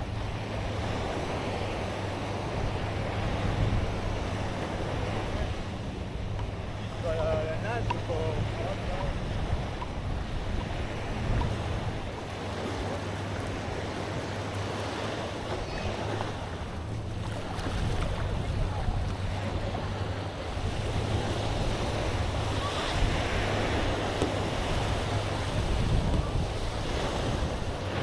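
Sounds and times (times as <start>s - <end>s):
sea waves washing onto beach: 0.0s - 28.0s
wind buffeting microphone: 0.0s - 28.0s.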